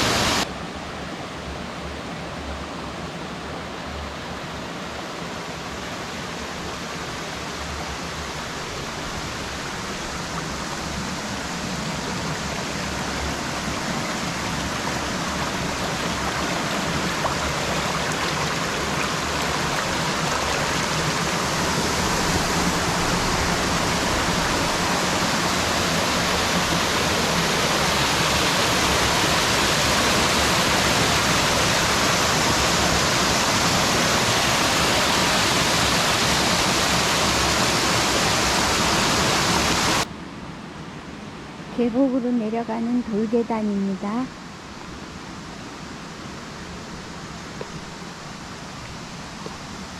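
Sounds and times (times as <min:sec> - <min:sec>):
mountain stream rushing and splashing: 0:00.0 - 0:49.9.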